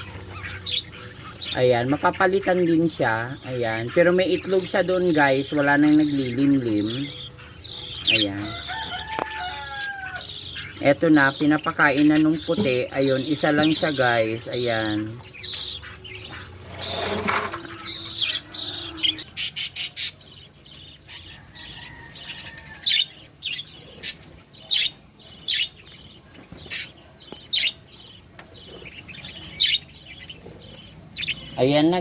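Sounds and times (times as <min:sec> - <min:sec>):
budgerigars chirping: 0:00.0 - 0:32.0.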